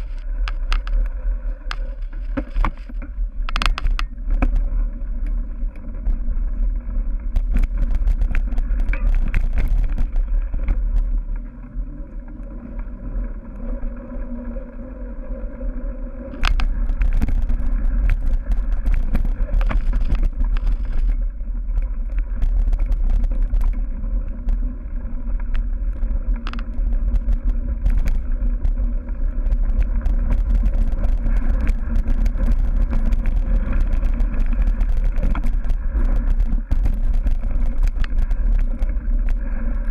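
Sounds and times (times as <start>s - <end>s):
bike clicking and rattling: 0.0s - 11.5s, 16.3s - 39.9s
wind rumbling on microphone: 0.0s - 39.9s.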